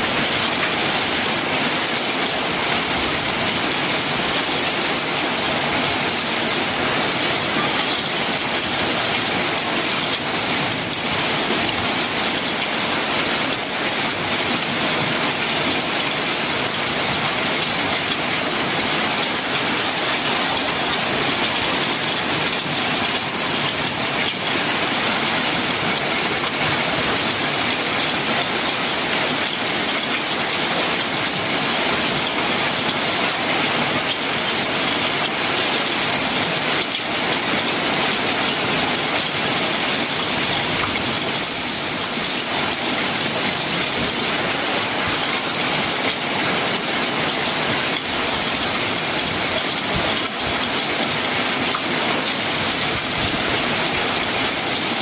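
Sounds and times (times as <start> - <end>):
heavy rain on metal roof: 0.0 - 55.0.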